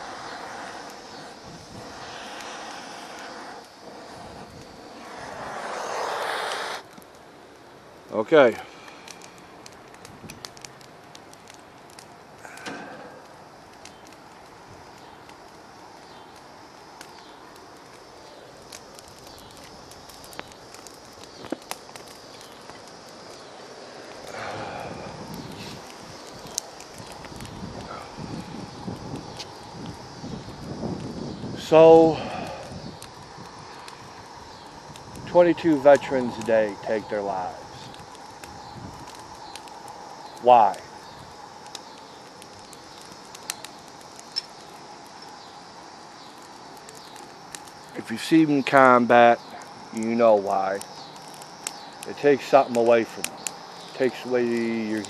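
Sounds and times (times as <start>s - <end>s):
campfire crackling and popping: 0.0s - 55.0s
fire hissing: 0.0s - 55.0s.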